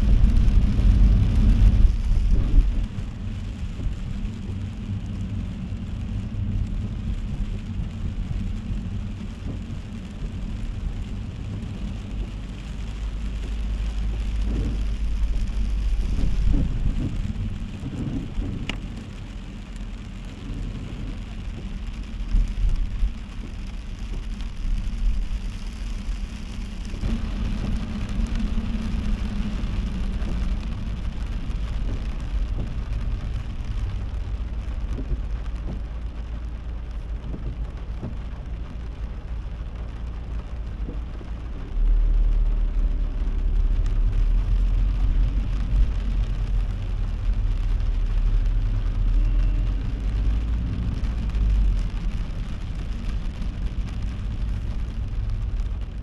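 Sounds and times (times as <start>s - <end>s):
car engine rumble: 0.0s - 56.0s
heavy rain on a car: 0.0s - 56.0s
tyres on wet road: 0.0s - 56.0s.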